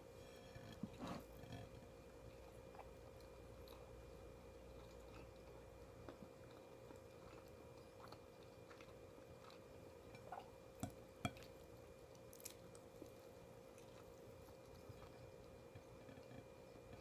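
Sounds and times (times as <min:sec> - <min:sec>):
faint steady hum: 0:00.0 - 0:17.0
person chewing: 0:02.3 - 0:17.0.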